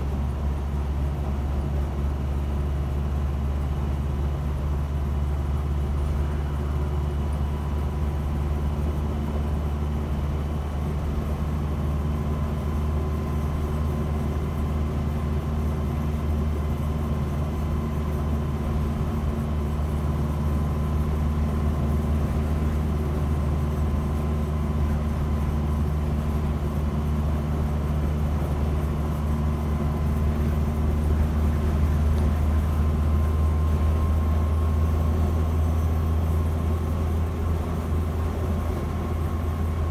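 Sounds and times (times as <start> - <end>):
faint steady whine: 0.0 - 39.9
truck engine droning: 0.0 - 39.9.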